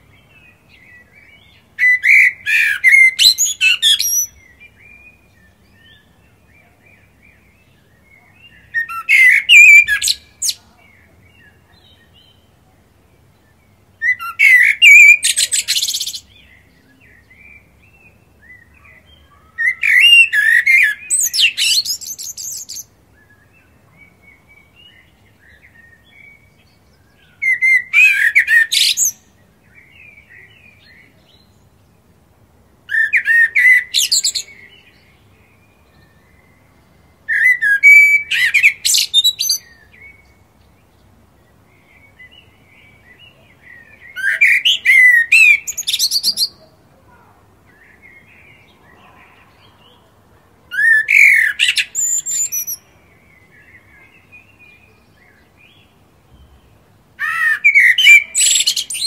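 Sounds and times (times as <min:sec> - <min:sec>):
blackbird singing: 0:00.0 - 0:32.1, 0:32.9 - 0:59.0.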